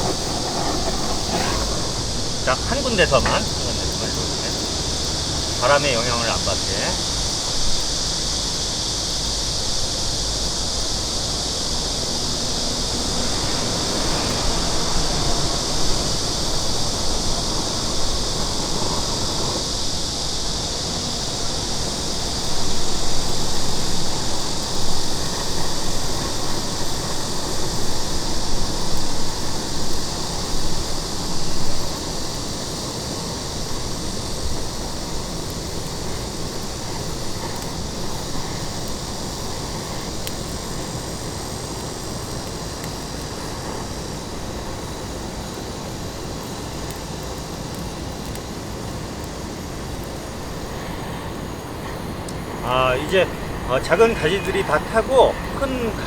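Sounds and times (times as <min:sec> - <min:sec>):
gas torch hissing: 0:00.0 - 0:56.0.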